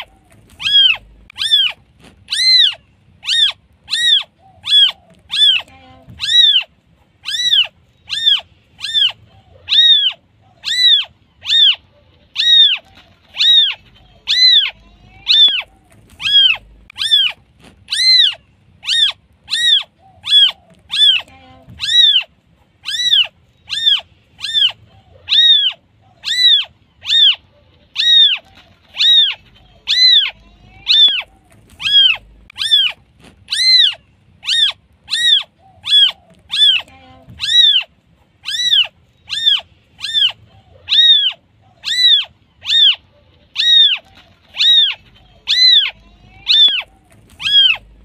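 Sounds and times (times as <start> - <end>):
kitten mewing: 0.0 - 48.0.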